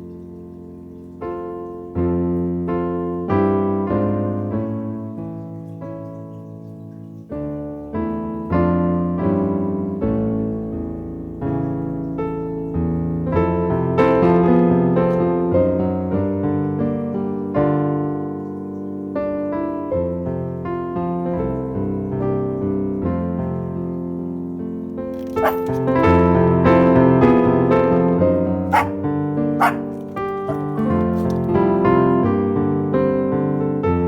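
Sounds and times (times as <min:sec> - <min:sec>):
slow piano piece: 0:00.0 - 0:34.0.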